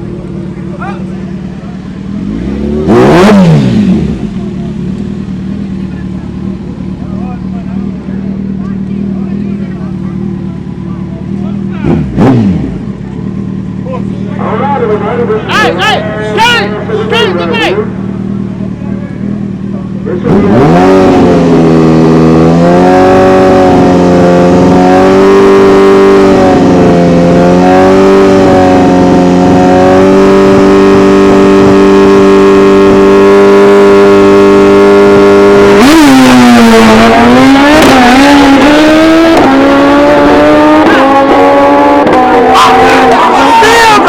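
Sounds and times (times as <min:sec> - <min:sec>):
racing motorcycle engine revving: 0:00.0 - 0:44.0.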